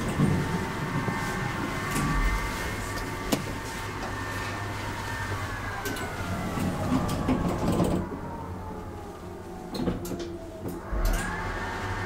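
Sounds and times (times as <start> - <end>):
elevator humming: 0.0 - 12.0.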